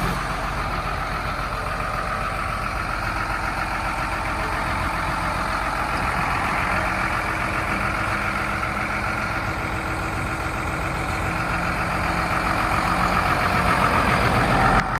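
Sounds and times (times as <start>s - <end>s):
diesel truck engine running: 0.0s - 14.9s.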